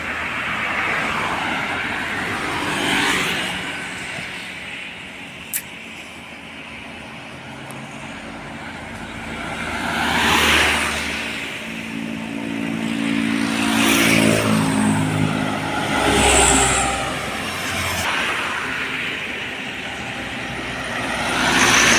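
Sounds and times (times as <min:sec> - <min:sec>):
highway vehicles passing: 0:00.0 - 0:21.9
heavy truck engine drone: 0:03.3 - 0:21.9.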